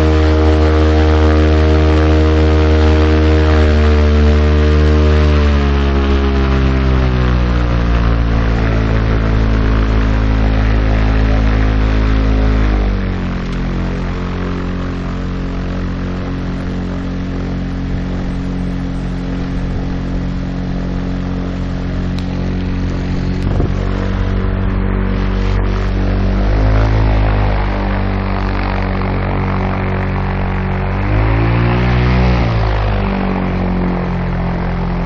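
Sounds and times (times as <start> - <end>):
propeller engine running: 0.0 - 35.0
wind noise: 0.0 - 35.0.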